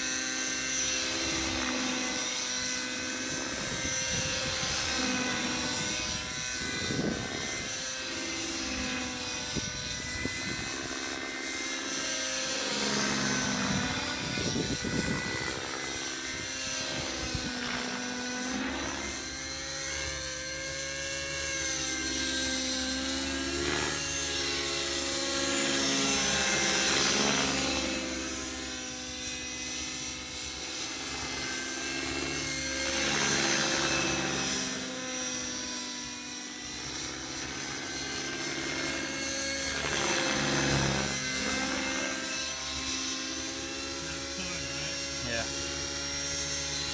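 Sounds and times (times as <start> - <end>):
rc helicopter engine and rotors: 0.0 - 46.9.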